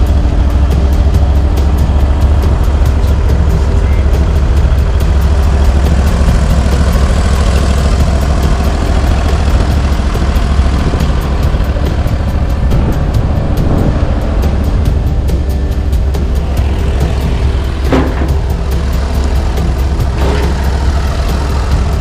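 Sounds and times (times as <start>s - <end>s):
stump grinder engine running: 0.0s - 22.0s.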